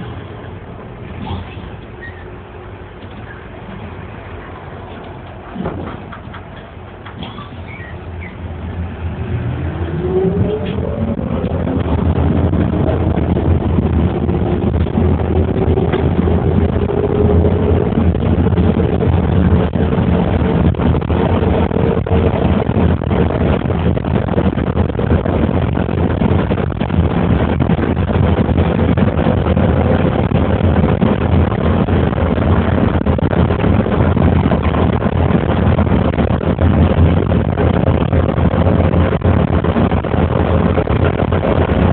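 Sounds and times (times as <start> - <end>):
vehicle rumble and road noise: 0.0 - 41.9
vehicle accelerating whine: 1.1 - 36.0.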